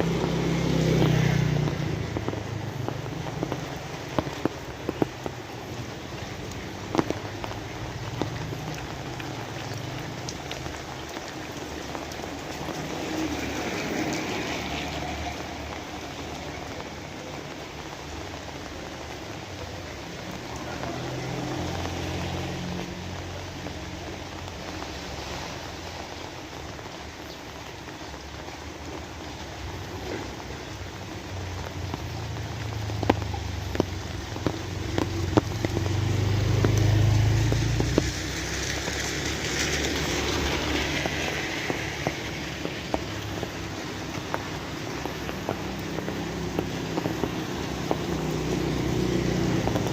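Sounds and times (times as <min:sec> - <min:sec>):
drips on hard surface: 0:00.0 - 0:49.9
steady rain falling: 0:00.0 - 0:49.9
vehicle engine hum: 0:00.0 - 0:49.9.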